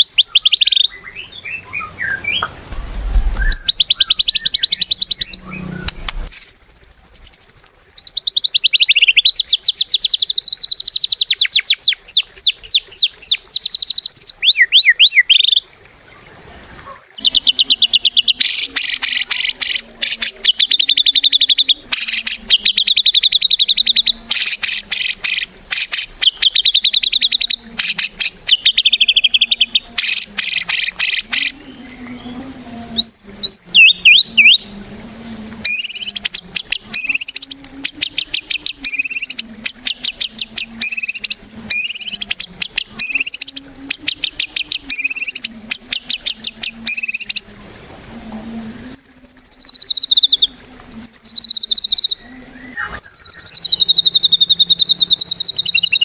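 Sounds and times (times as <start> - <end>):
songbird singing whistled trills: 0.0 - 32.4, 33.0 - 34.7, 35.6 - 47.5, 48.9 - 56.0.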